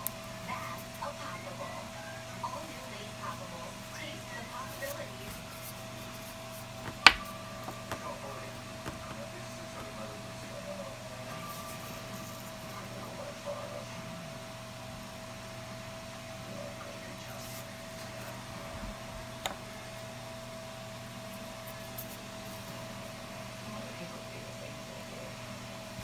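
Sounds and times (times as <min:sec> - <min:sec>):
whining machine hum: 0:00.0 - 0:26.0.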